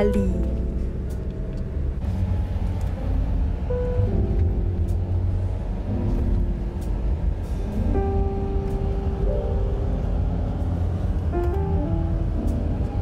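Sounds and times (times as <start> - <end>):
background music with held notes: 0.0 - 13.0
car driving rumble: 0.0 - 13.0.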